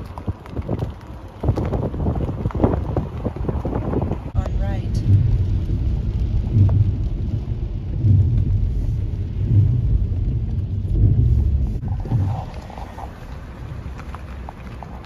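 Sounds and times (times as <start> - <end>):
road and rain noise in car: 0.0 - 15.0.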